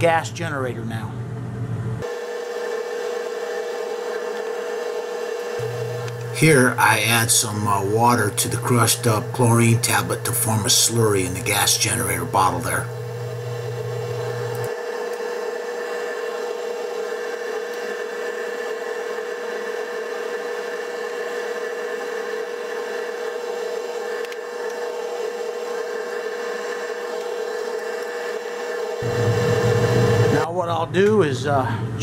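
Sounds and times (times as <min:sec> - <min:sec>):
exhaust fan humming: 0:00.0 - 0:32.0.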